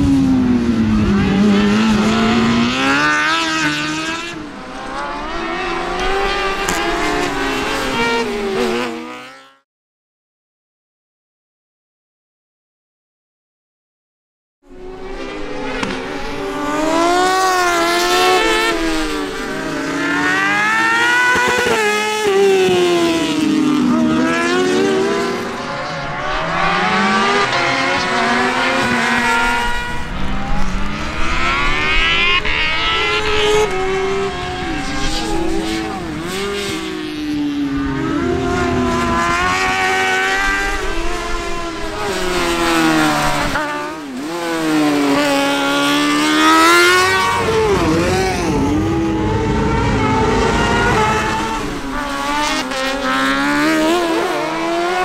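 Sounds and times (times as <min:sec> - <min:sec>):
motorcycle engine revving high: 0:00.0 - 0:09.6, 0:14.8 - 0:55.0.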